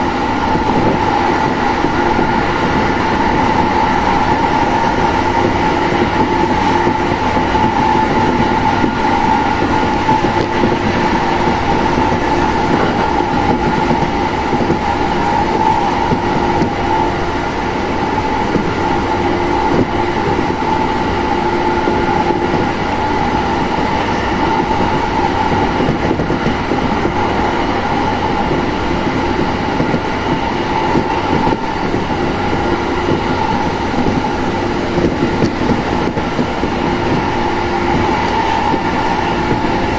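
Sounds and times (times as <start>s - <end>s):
steady train whine: 0.0s - 39.9s
train wheels rumbling on rail: 0.0s - 39.9s.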